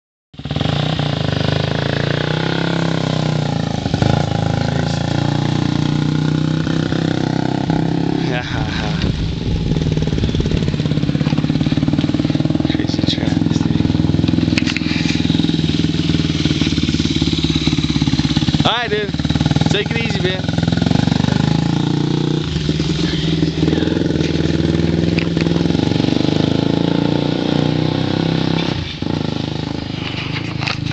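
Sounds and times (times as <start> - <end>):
dirt bike engine running: 0.4 - 30.9.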